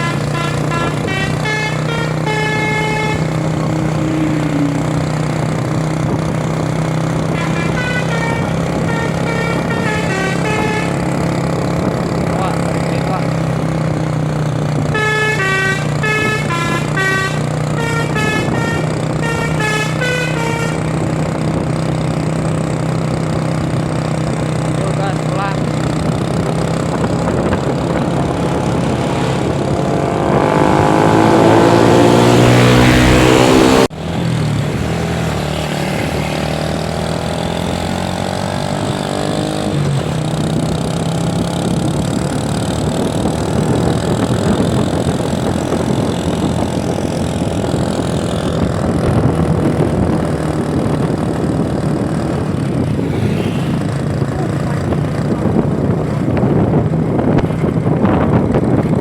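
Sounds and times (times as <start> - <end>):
bus engine revving: 0.0 - 59.0
road noise: 0.0 - 59.0.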